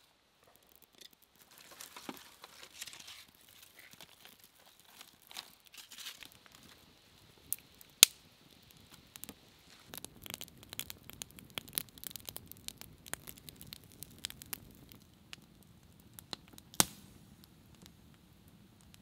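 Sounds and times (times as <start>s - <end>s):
campfire crackling and popping: 0.3s - 19.0s.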